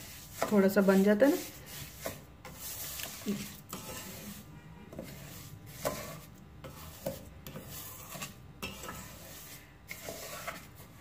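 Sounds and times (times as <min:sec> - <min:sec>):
wooden spatula scraping pot: 0:00.0 - 0:11.0.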